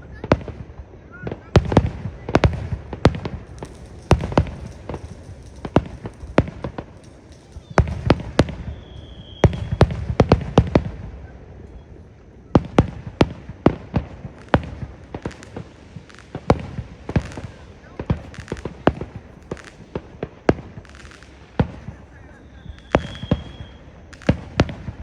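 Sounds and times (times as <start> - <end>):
fireworks bangs and cracks: 0.0 - 25.0.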